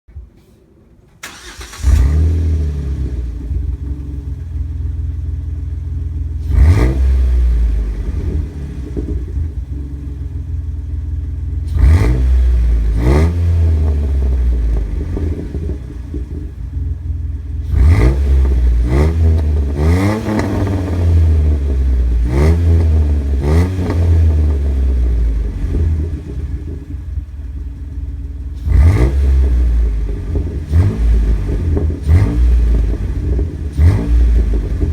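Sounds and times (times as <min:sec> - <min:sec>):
car engine idling and revving: 0:01.2 - 0:34.9.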